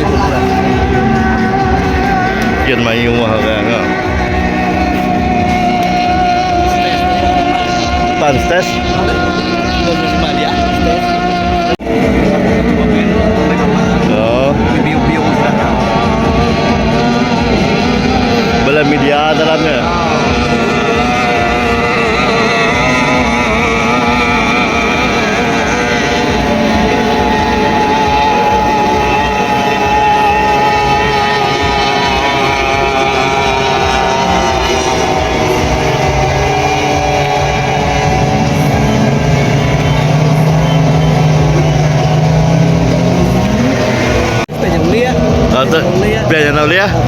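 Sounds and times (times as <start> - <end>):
racing boat engine running: 0.0 - 47.0.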